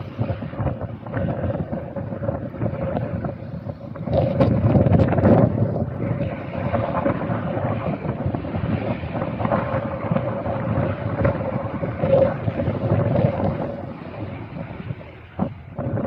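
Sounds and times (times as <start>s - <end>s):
distant helicopter whine and rumble: 0.0s - 16.0s
wind buffeting microphone: 0.0s - 16.0s.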